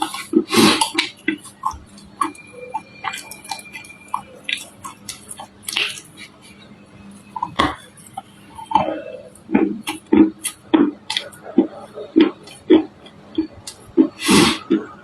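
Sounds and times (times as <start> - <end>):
crunchy chewing: 0.0 - 15.0
wet mouth sounds: 0.0 - 15.0.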